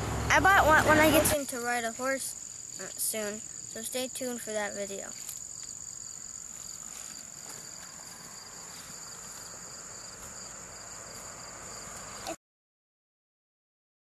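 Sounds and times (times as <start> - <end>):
pulsing insect trill: 1.0 - 12.3
insects trilling: 1.0 - 12.4.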